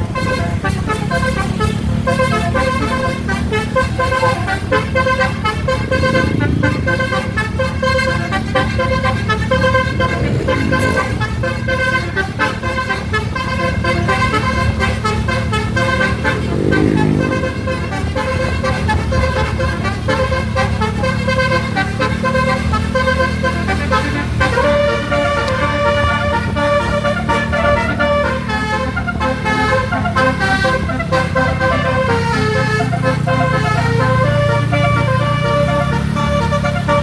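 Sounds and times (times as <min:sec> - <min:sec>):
engine rumble: 0:00.0 - 0:37.0
musical air horns tune: 0:00.0 - 0:37.0.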